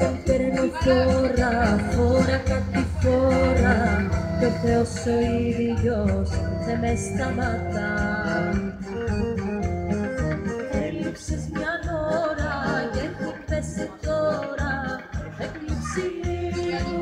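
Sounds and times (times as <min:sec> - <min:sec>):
folk dance music: 0:00.0 - 0:17.0.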